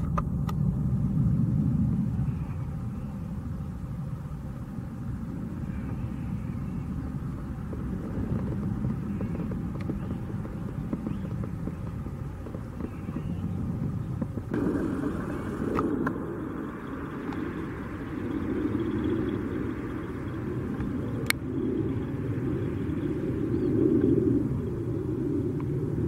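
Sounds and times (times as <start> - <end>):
distant jet engine rumble: 0.0 - 26.0.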